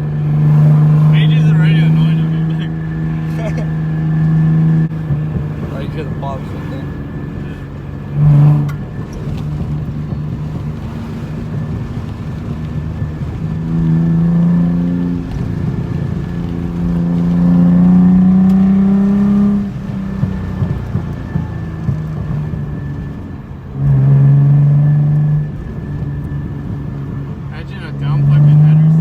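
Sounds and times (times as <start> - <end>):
car exhaust droning: 0.0 - 29.0
engine revving: 0.0 - 29.0
exhaust pops: 0.0 - 29.0
loud exhaust blast: 0.0 - 29.0.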